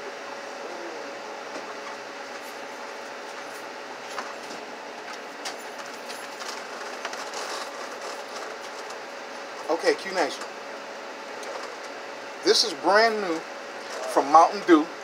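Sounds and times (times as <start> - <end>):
mechanical background hum: 0.0 - 15.0.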